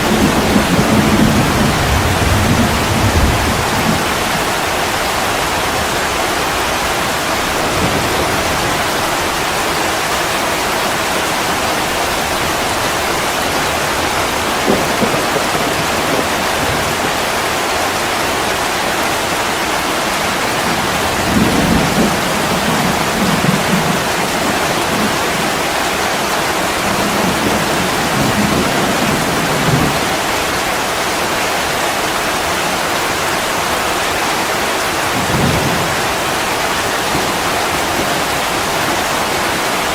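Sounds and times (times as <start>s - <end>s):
thunder rumbling: 0.0s - 18.2s, 20.0s - 30.7s, 35.0s - 39.6s
heavy rain falling: 0.0s - 39.9s.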